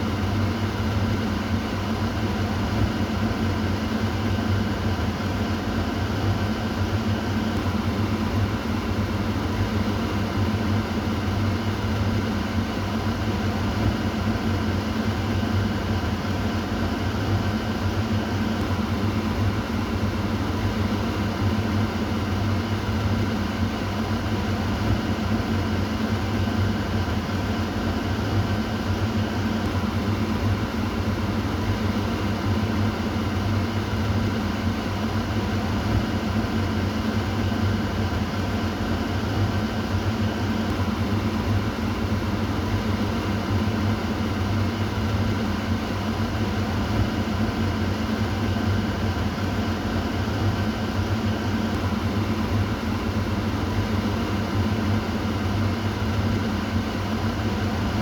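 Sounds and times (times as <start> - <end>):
kitchen exhaust fan running: 0.0 - 58.0.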